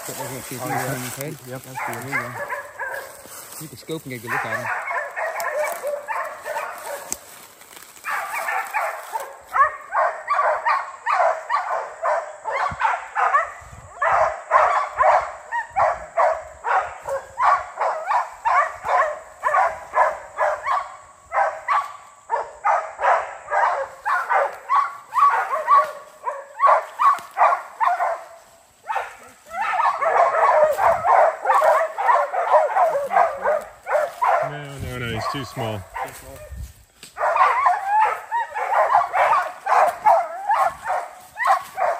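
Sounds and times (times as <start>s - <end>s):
hunting dogs barking: 0.0s - 41.9s.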